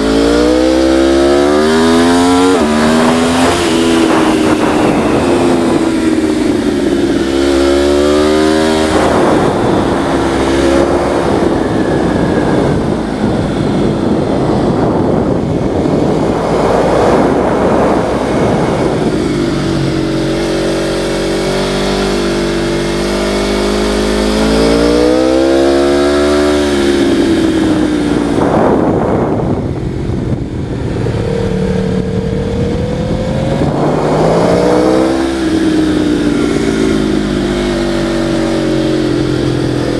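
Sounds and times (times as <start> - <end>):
small engine revving hard: 0.0 - 39.9
wind rush: 0.0 - 39.9.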